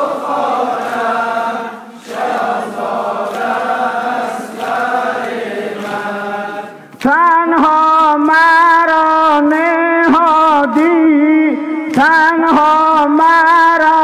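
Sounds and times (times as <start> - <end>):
male congregation chanting: 0.0 - 14.0.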